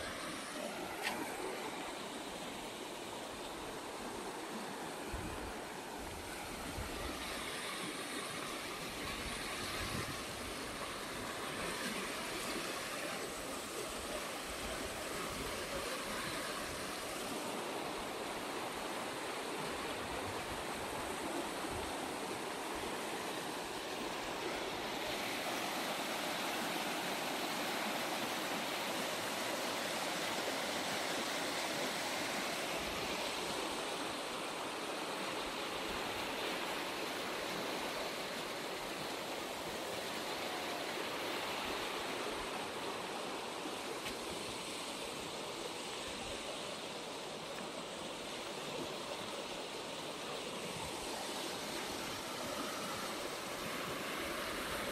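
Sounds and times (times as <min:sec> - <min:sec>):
river water rushing over rapids: 0:00.0 - 0:54.9.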